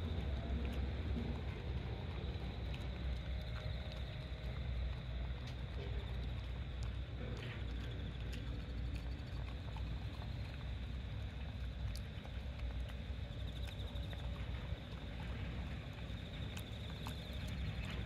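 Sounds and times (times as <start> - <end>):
wind rumble on microphone: 0.0 - 18.0
dog chewing: 0.3 - 18.0.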